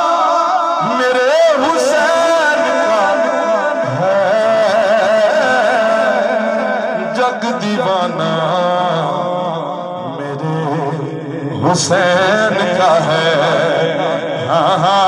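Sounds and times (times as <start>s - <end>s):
man singing through pa system: 0.0s - 15.0s.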